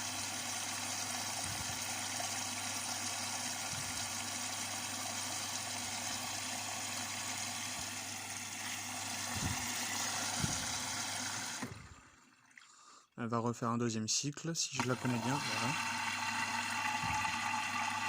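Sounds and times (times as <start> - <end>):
water rushing into washing machine: 0.0 - 12.8, 14.8 - 18.0.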